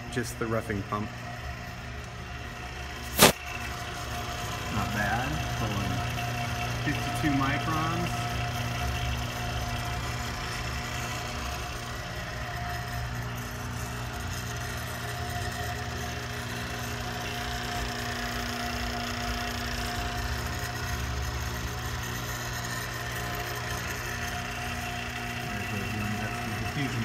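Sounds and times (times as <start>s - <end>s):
vacuum pump droning: 0.0s - 27.0s.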